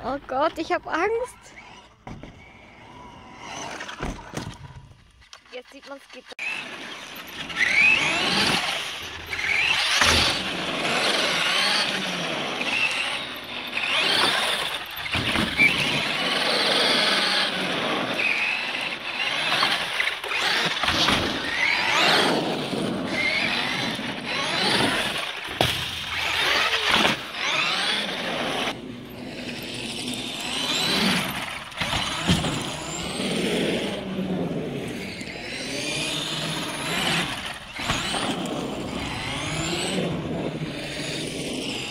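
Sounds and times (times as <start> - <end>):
electric motor whine: 1.4 - 5.0, 6.4 - 41.9
tyres rushing on asphalt: 6.4 - 41.9.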